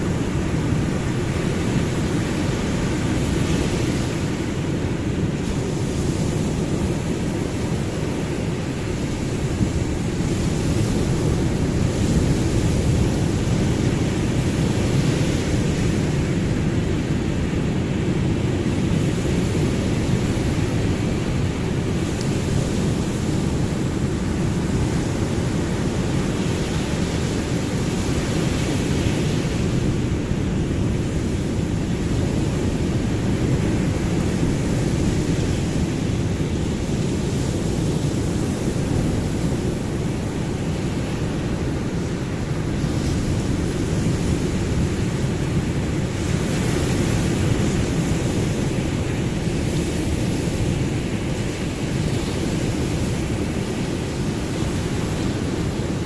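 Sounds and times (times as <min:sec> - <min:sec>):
ocean waves rumbling: 0:00.0 - 0:56.0.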